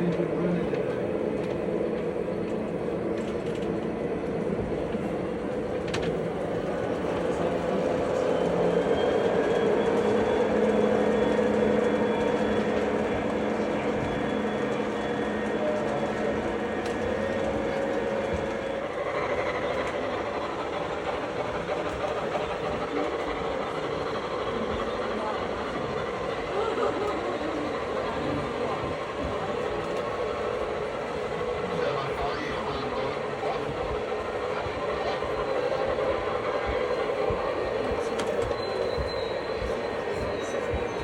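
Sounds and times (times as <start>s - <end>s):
train rumbling along rails: 0.0s - 41.0s.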